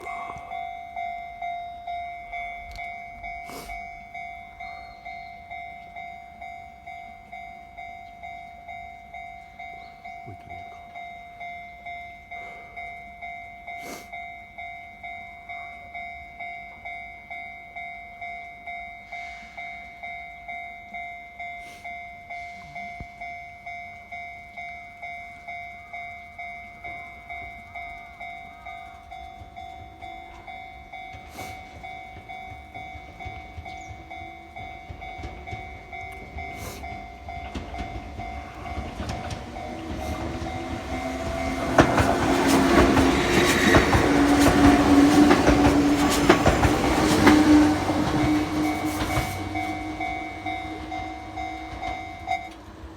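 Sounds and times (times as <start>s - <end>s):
level crossing warning bell: 0.0s - 52.9s.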